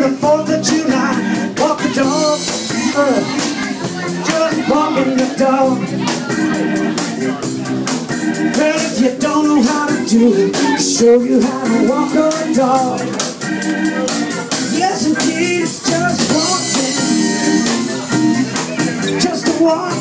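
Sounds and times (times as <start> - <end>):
bass: 0.0 - 20.0
drum kit: 0.0 - 20.0
electric guitar: 0.0 - 20.0
organ-toned keyboard: 0.0 - 20.0.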